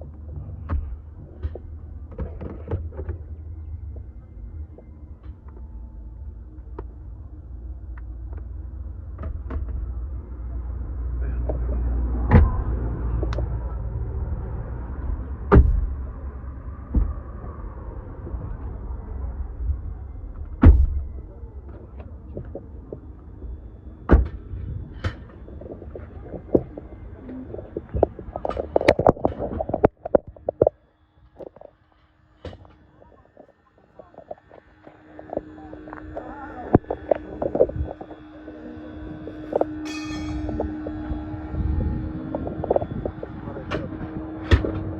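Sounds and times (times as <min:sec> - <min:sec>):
vehicle rumble: 0:00.0 - 0:44.9.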